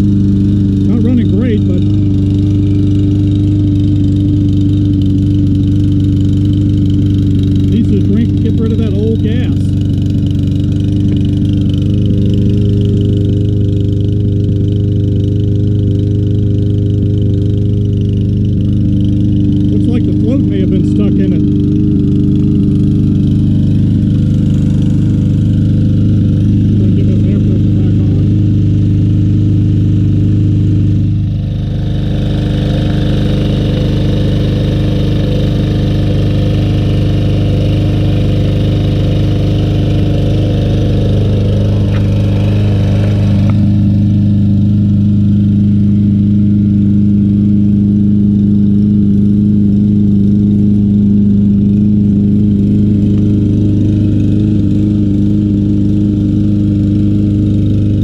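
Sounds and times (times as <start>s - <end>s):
lawn mower engine running roughly: 0.0s - 58.0s.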